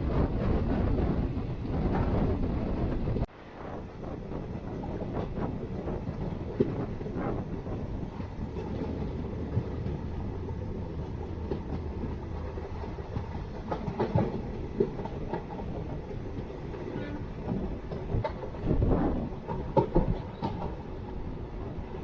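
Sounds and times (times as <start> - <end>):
train rumbling along track: 0.0 - 22.0.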